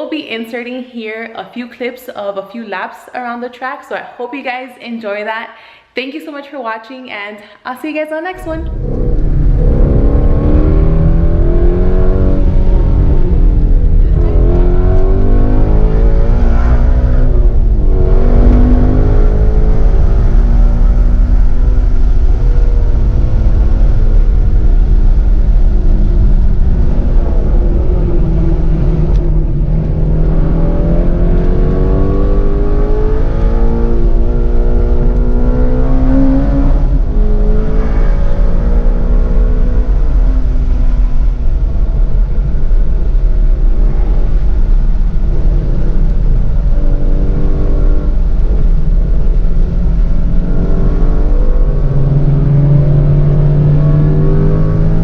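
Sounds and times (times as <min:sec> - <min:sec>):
car engine accelerating through gears: 0:08.4 - 0:55.0
low road rumble: 0:08.4 - 0:55.0.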